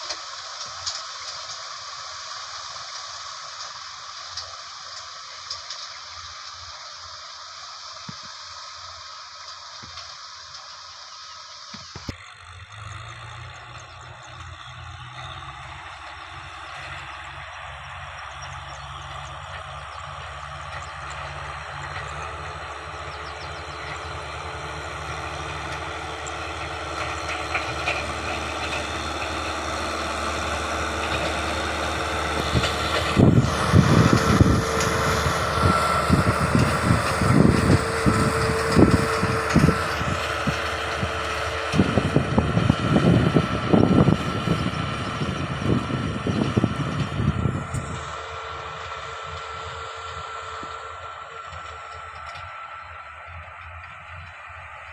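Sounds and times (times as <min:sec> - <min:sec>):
farm machine engine running: 0:00.0 - 0:54.9.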